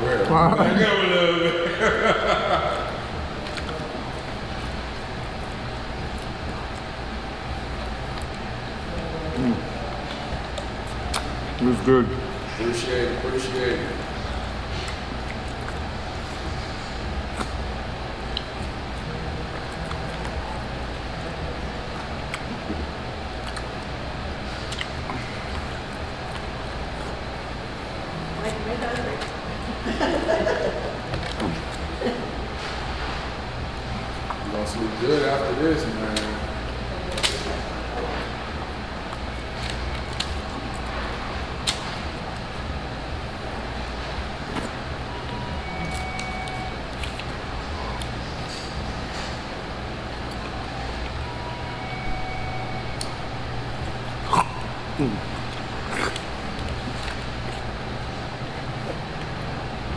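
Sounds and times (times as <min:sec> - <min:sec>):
indoor background hum: 0:00.0 - 0:59.9.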